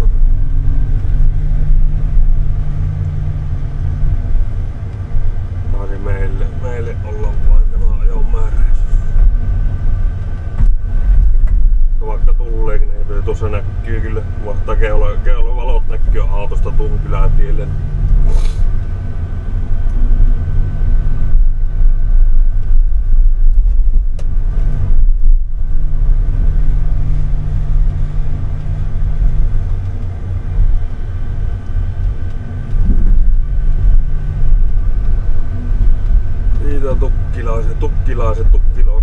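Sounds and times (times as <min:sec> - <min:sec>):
diesel engine rumble: 0:00.0 - 0:39.0.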